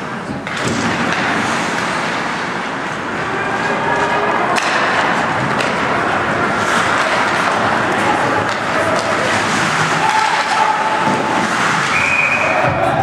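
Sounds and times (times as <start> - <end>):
skates scraping on ice: 0.0 - 13.0
spectators' voices echoing: 0.0 - 13.0.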